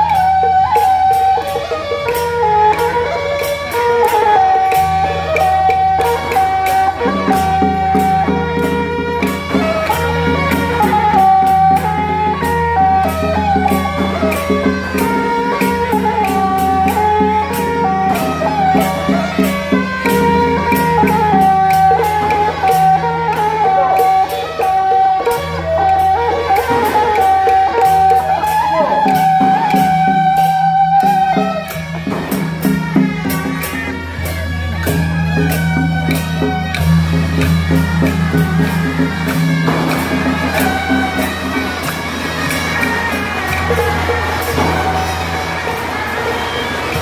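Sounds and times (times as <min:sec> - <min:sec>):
drum and gong beats: 0:00.0 - 0:47.0
percussion strokes: 0:00.0 - 0:47.0
procession band playing: 0:00.0 - 0:47.0
suona melody: 0:00.0 - 0:47.0.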